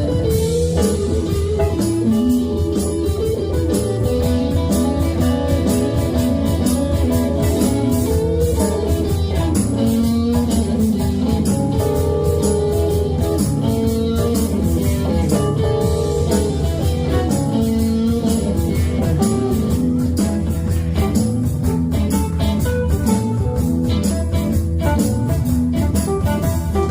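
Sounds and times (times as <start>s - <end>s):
guitar: 0.0s - 26.9s
live band playing instrumental: 0.0s - 26.9s.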